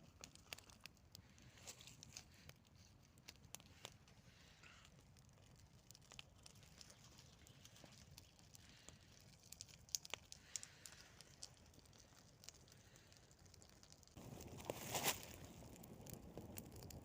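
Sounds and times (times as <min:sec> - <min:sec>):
campfire snapping and crackling: 0:00.0 - 0:17.0.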